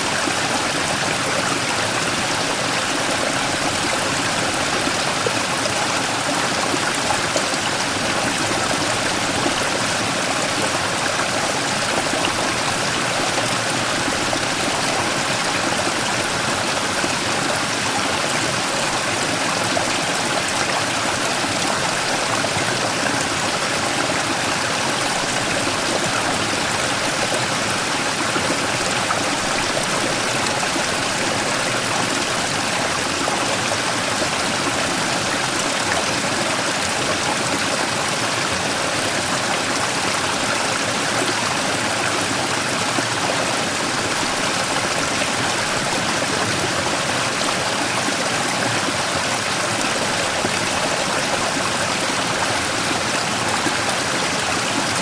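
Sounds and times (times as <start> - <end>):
stream rushing over rock: 0.0 - 55.0.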